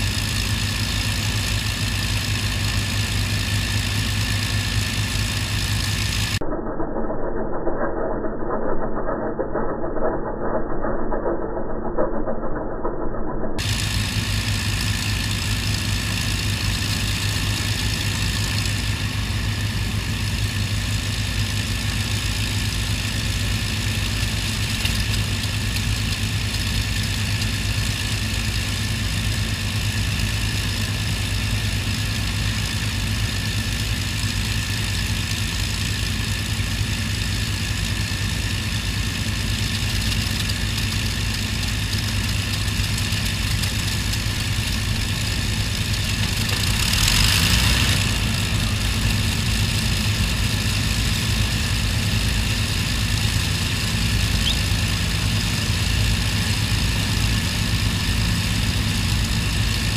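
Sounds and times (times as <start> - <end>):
piston engines droning: 0.0 - 59.9.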